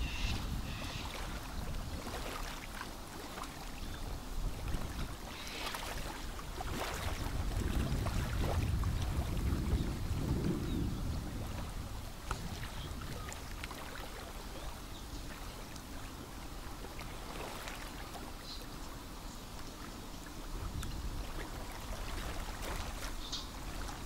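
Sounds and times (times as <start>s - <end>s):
wind rumble on microphone: 0.0s - 17.6s, 20.2s - 24.0s
water lapping at pond edge: 0.0s - 24.0s.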